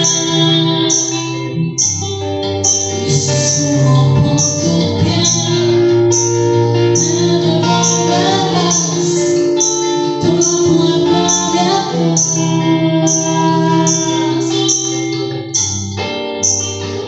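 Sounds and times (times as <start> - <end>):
woman singing: 0.0 - 1.8, 3.0 - 15.4
electric guitar with effects: 0.0 - 17.0.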